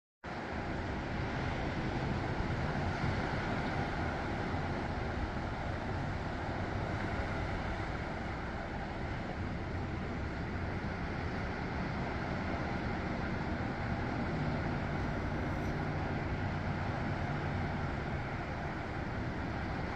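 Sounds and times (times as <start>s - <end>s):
surf rushing: 0.3s - 19.9s
wind rumble on microphone: 0.3s - 19.9s.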